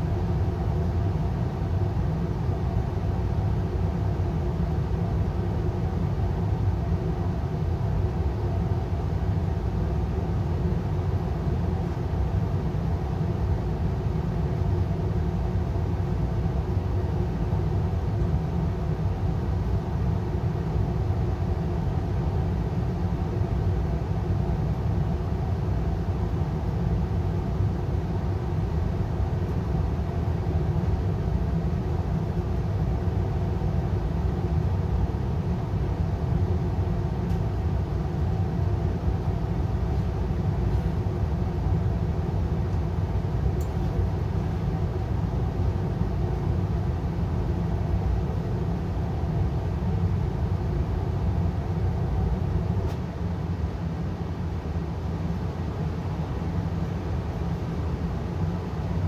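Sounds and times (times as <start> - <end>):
gas furnace rumbling: 0.0 - 59.0.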